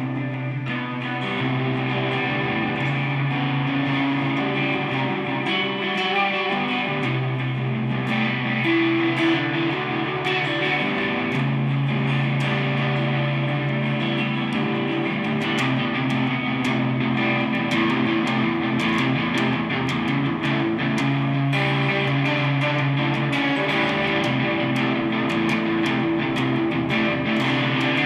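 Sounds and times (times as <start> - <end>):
electric guitar playing: 0.0 - 28.0.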